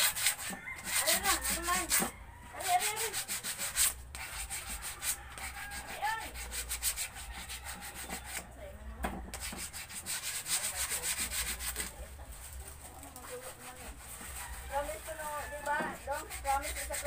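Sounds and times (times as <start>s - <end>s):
sandpaper rubbing on wood: 0.0s - 8.5s, 9.3s - 17.0s.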